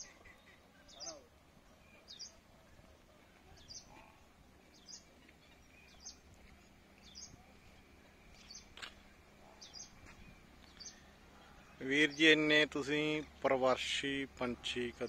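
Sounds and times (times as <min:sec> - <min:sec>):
bird chirping: 0:00.0 - 0:13.5
faint outdoor background noise: 0:00.0 - 0:15.0.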